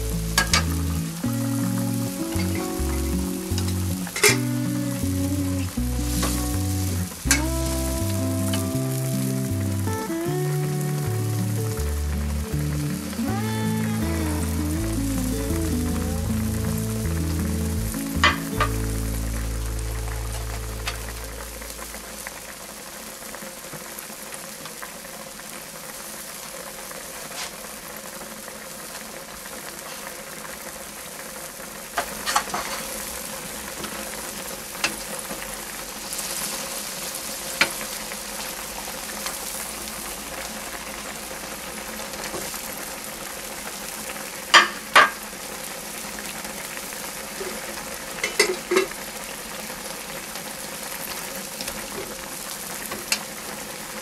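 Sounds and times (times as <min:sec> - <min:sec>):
sauce bubbling and sizzling: 0:00.0 - 0:54.0.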